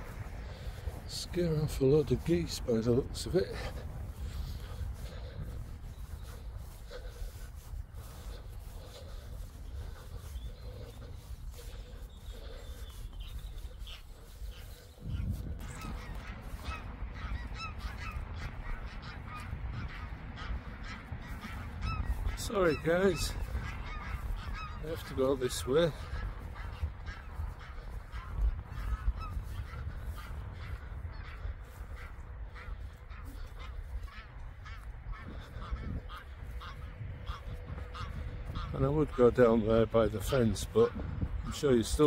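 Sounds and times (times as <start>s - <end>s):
geese honking: 0.0s - 42.0s.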